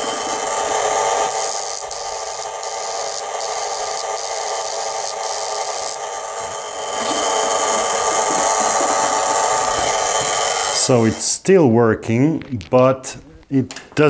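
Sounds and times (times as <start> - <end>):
spark gap buzzing: 0.0 - 11.4.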